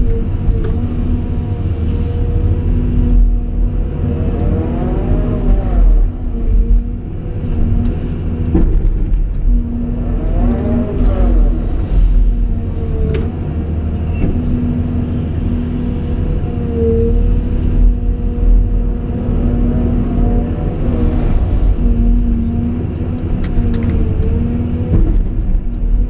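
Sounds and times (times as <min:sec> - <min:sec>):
excavator diesel rumble: 0:00.0 - 0:26.0.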